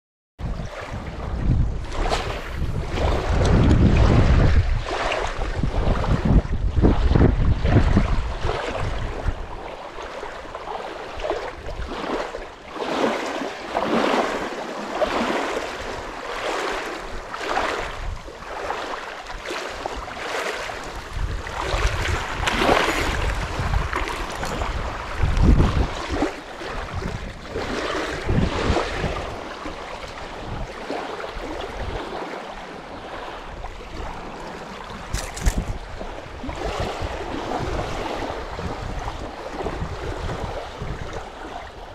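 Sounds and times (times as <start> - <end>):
small waves lapping on shore: 0.4 - 41.9
wind buffeting microphone: 0.4 - 41.9.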